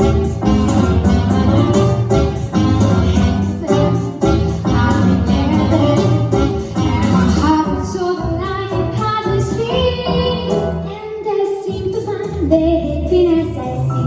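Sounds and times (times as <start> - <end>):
instrumental accompaniment: 0.0 - 14.0.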